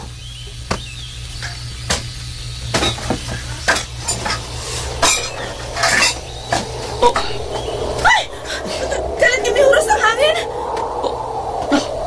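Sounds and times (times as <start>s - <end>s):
steady low hum: 1.0s - 12.0s.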